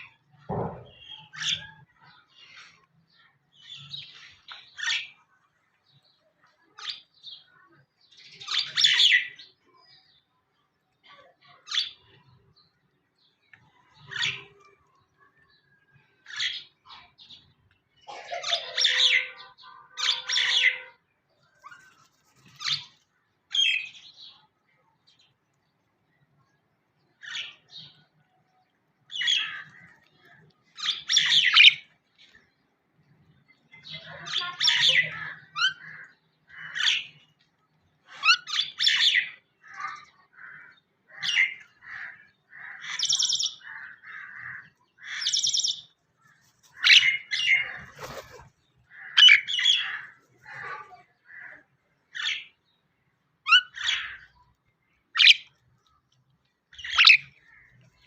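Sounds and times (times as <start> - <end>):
birds chirping and squawking: 0.0 - 10.4, 11.0 - 25.4, 26.1 - 58.0.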